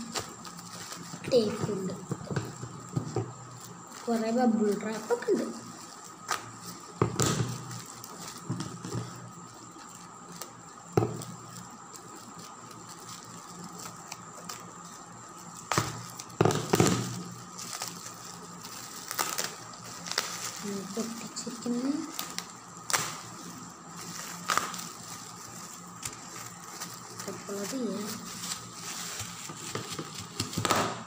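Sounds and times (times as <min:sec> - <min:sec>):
faint steady whine: 0:00.0 - 0:31.0
plastic crinkling: 0:00.0 - 0:31.0
scissors snipping bubble wrap: 0:00.0 - 0:31.0.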